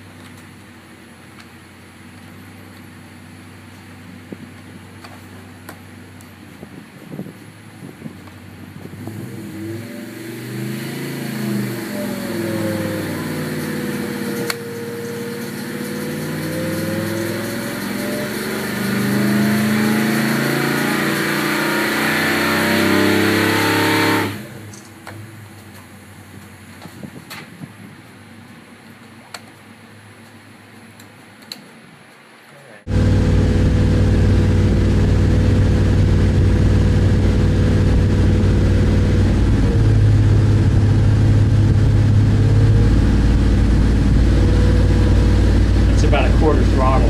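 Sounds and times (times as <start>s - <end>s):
car engine running steadily: 0.0s - 30.6s, 32.9s - 47.0s.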